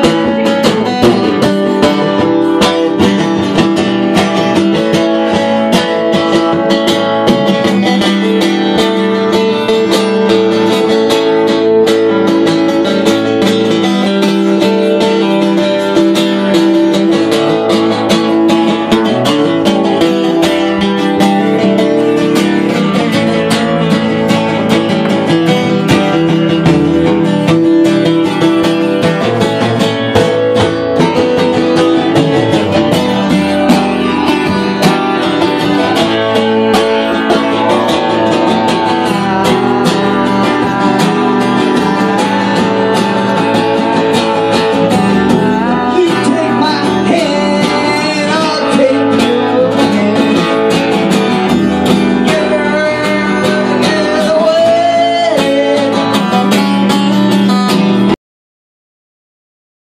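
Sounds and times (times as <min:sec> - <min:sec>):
acoustic guitars strumming: 0:00.0 - 0:58.2.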